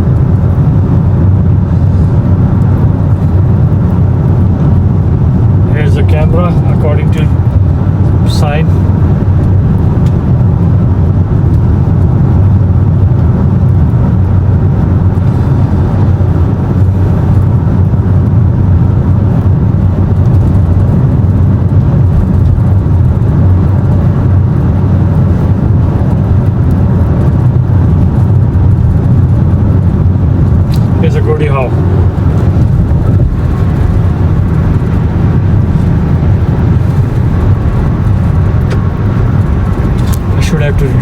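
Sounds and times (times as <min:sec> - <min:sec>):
car driving at highway speed: 0:00.0 - 0:41.0.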